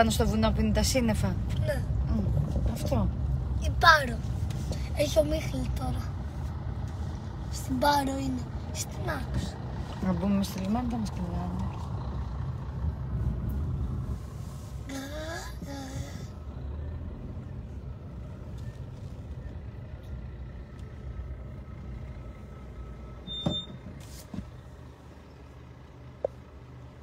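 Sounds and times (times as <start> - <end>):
lorry engine rumble passing: 0.0 - 27.0.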